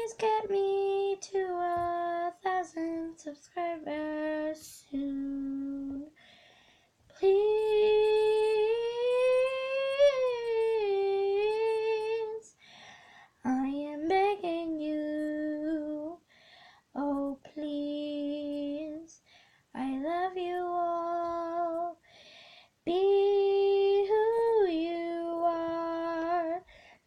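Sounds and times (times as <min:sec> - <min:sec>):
girl singing unaccompanied: 0:00.0 - 0:06.2, 0:07.1 - 0:12.6, 0:13.4 - 0:16.3, 0:16.9 - 0:22.1, 0:22.7 - 0:27.0.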